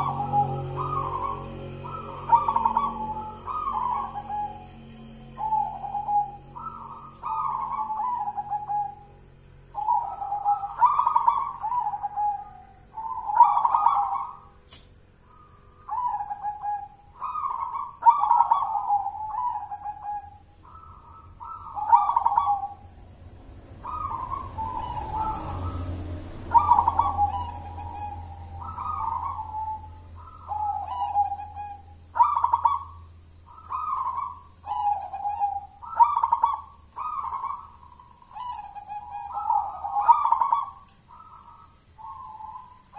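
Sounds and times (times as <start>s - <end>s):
dove cooing: 0.0s - 14.6s, 15.2s - 42.9s.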